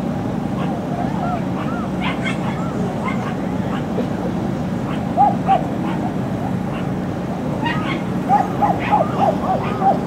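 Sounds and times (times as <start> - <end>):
low background hum: 0.0 - 10.0
dog yapping: 0.6 - 4.1, 4.8 - 7.0, 7.6 - 10.0.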